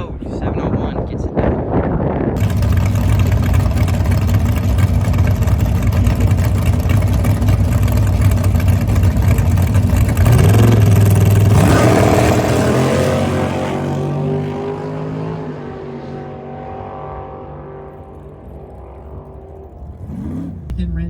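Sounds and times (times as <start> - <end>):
drag car engine revving: 2.4 - 21.0.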